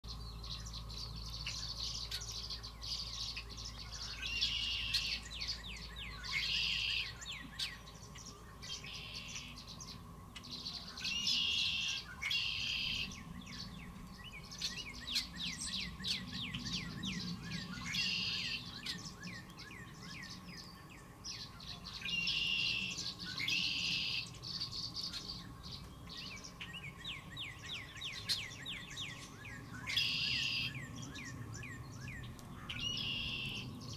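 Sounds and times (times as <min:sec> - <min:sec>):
swallows twittering: 0:00.1 - 0:33.9.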